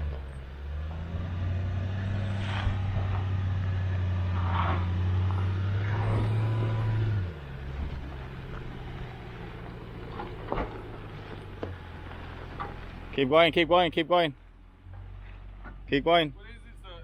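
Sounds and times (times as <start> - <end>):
car engine pulling at low speed: 0.0 - 17.0.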